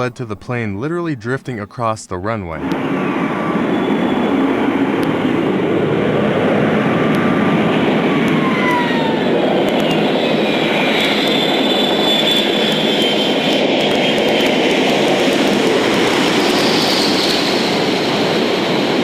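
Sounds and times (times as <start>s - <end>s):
jet engines roaring: 0.0s - 19.0s
turbine whines: 2.4s - 19.0s.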